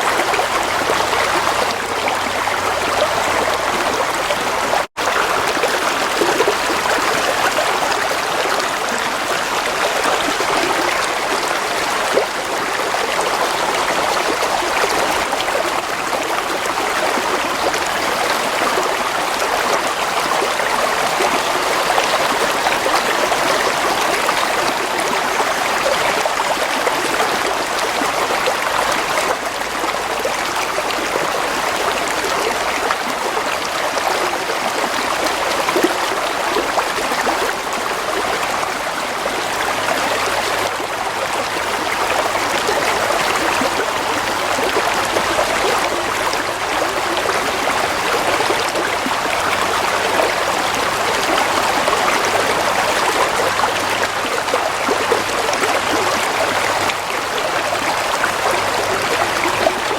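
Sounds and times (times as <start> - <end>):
stream water over stones: 0.0 - 59.9.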